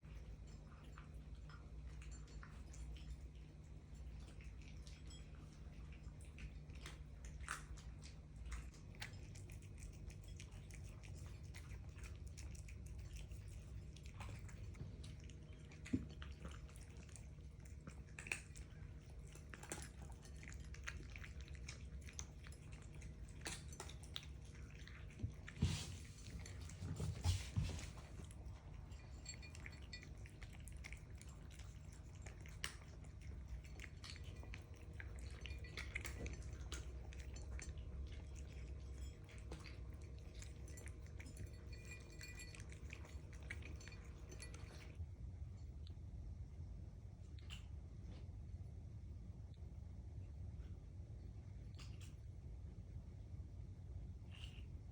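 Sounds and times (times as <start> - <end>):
cats chewing and crunching food: 0.0 - 54.9
low steady hum: 0.0 - 54.9.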